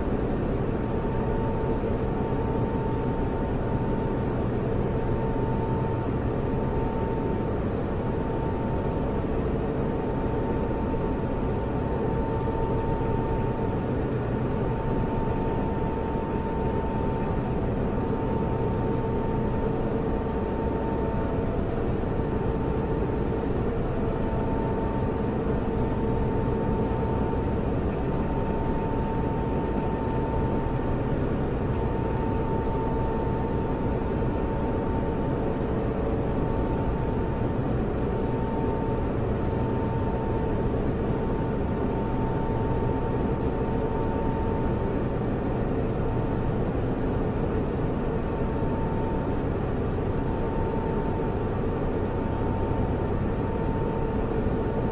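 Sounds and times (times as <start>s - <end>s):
cooling fans humming: 0.0s - 54.9s
faint constant tones: 0.0s - 54.9s.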